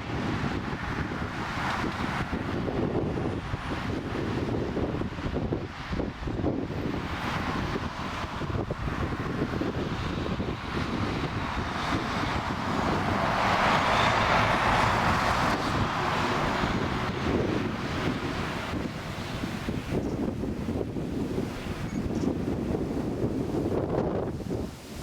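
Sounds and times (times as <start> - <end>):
jet engines roaring: 0.0 - 25.0
wind buffeting microphone: 0.0 - 25.0.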